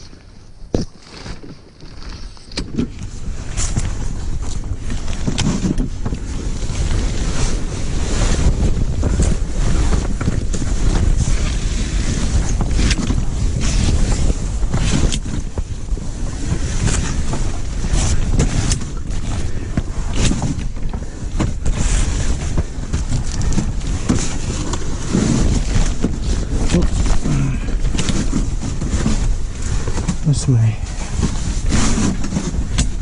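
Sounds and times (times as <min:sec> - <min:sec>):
rustling knocks and clatter: 0:00.7 - 0:30.2, 0:31.0 - 0:33.0
wind buffeting microphone: 0:02.2 - 0:33.0.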